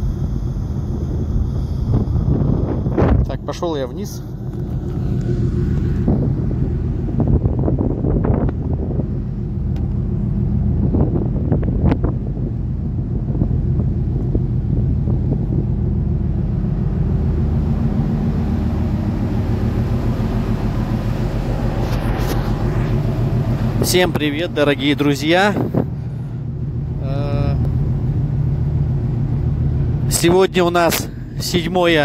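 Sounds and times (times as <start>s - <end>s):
ship diesel engine rumble: 0.0s - 32.0s
wind buffeting microphone: 0.0s - 32.0s.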